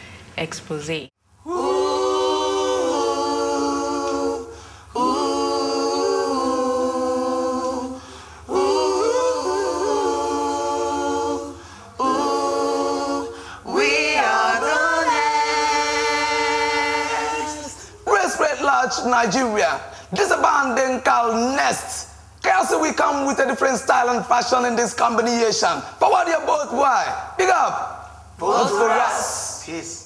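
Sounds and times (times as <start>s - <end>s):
vocal group singing a cappella: 1.3s - 30.0s.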